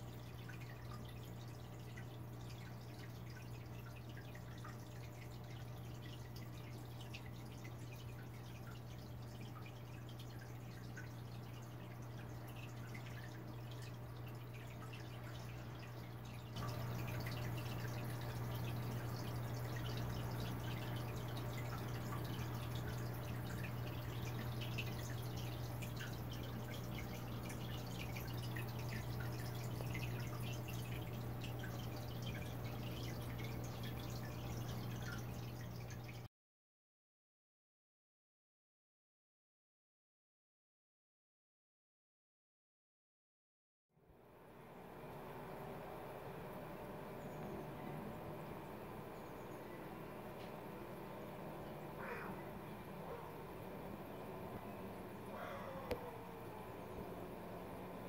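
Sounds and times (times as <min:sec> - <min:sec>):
low equipment hum: 0:00.0 - 0:36.3, 0:44.1 - 0:58.0
water dripping and trickling: 0:00.0 - 0:36.3, 0:44.8 - 0:58.0.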